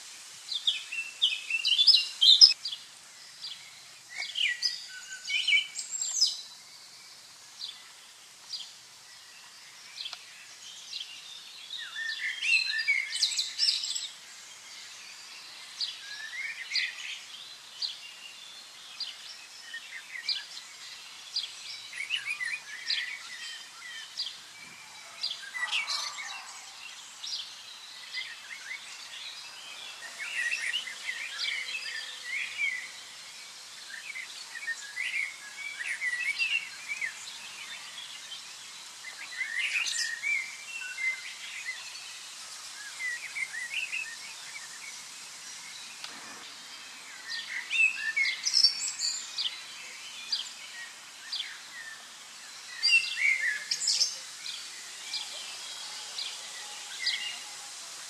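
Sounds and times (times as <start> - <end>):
faint steady hiss: 0.0 - 58.0
small songbirds chirping: 0.0 - 58.0.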